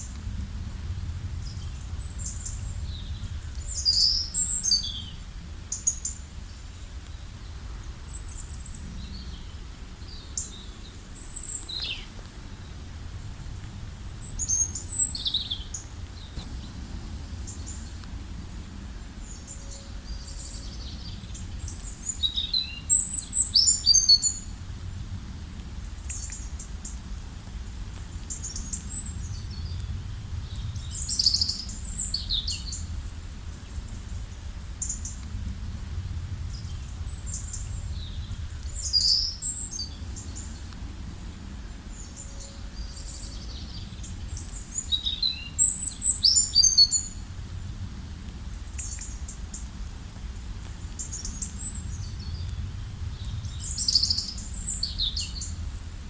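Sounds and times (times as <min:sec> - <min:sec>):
low background rumble: 0:00.0 - 0:56.0
songbirds chirping and trilling: 0:01.2 - 0:27.1, 0:28.0 - 0:35.4, 0:36.1 - 0:47.6, 0:48.5 - 0:55.9.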